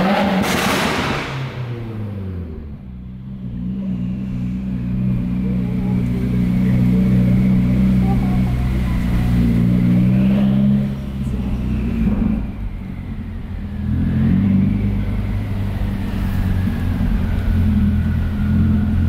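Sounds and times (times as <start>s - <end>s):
car engine at low speed: 0.0s - 19.0s.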